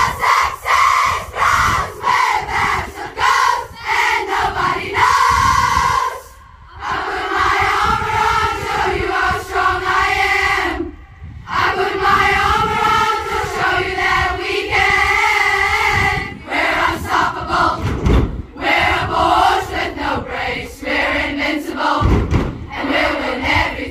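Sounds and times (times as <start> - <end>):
crowd singing and chanting: 0.0 - 23.9.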